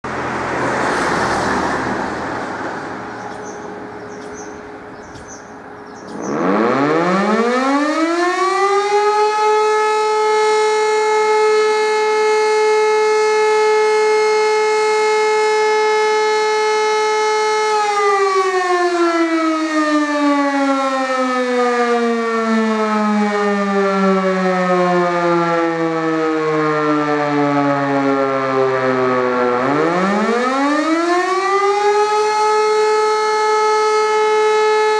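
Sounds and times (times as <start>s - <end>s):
electromechanical siren wailing: 1.8s - 34.9s.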